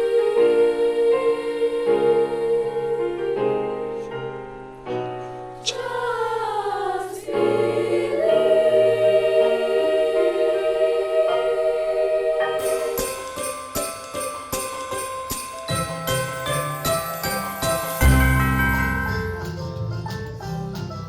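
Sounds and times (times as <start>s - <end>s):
choir singing held chords: 0.0s - 4.4s, 5.6s - 19.6s.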